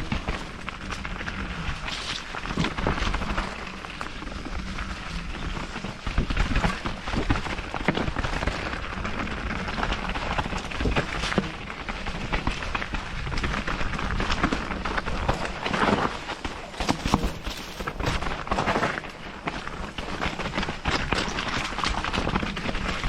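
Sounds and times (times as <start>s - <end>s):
bike knocking and rattling: 0.0s - 23.0s
tyre noise: 0.0s - 23.0s
wind noise: 0.0s - 23.0s.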